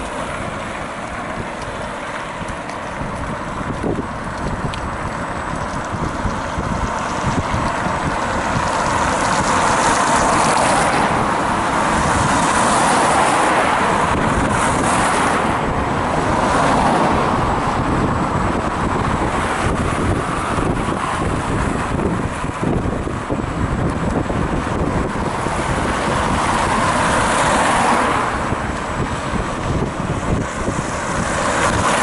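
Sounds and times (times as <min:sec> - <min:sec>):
road and traffic noise: 0:00.0 - 0:32.0
wind buffeting microphone: 0:00.0 - 0:32.0.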